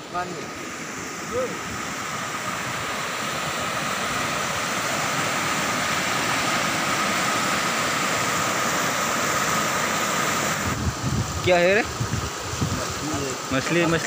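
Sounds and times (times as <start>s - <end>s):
floodwater rushing through channel: 0.0s - 14.0s.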